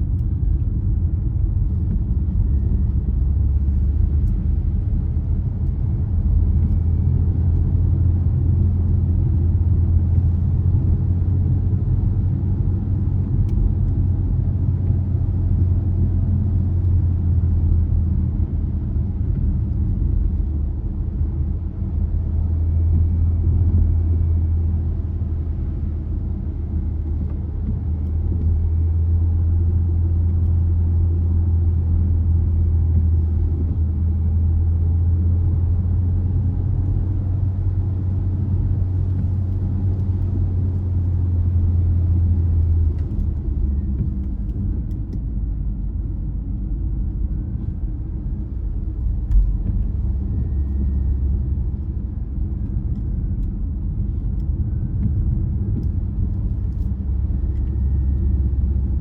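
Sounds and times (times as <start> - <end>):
car engine and road noise: 0.0 - 59.0
low hum: 0.0 - 59.0.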